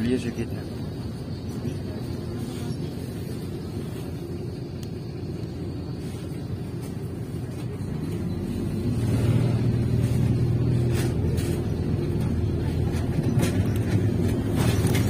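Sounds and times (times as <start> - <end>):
bus interior rumble: 0.0 - 15.0
engine hum: 0.0 - 15.0.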